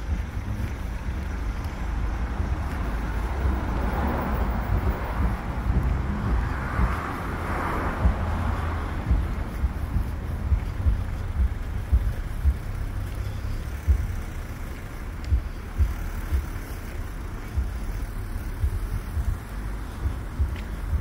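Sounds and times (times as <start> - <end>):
cars moving slowly past: 0.0 - 21.0
wind buffeting microphone: 0.0 - 21.0.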